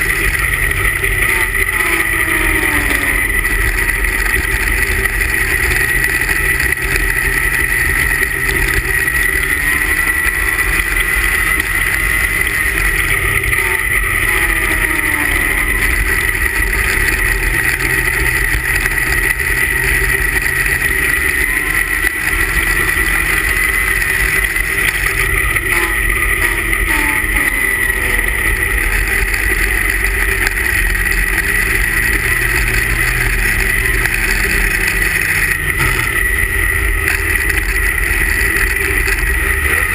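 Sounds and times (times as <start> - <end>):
high whine: 0.0 - 39.9
snowmobile engine running hard: 0.0 - 39.9.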